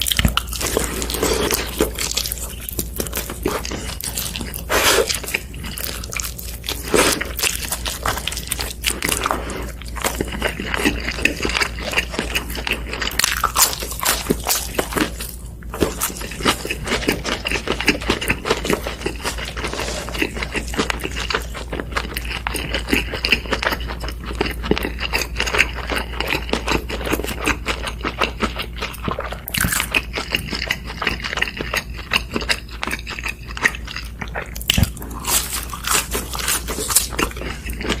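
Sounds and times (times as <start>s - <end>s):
crunching crispy fried chicken: 0.0s - 38.0s.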